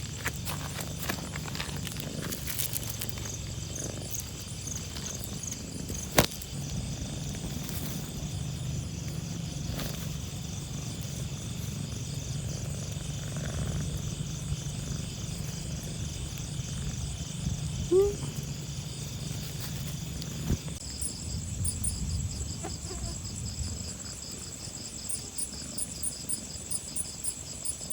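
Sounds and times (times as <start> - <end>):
insect chirps: 0.0 - 27.9.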